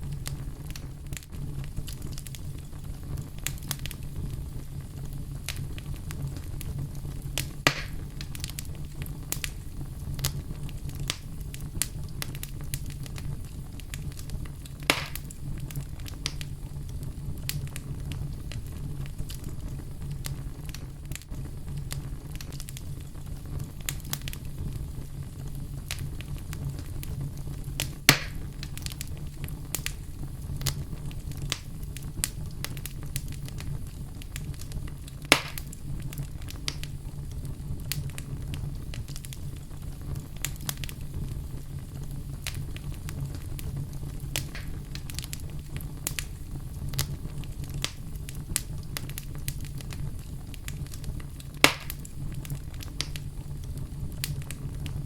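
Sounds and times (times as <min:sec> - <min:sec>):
loud fire pops: 0:00.0 - 0:55.0
wood fire burning: 0:00.0 - 0:55.0.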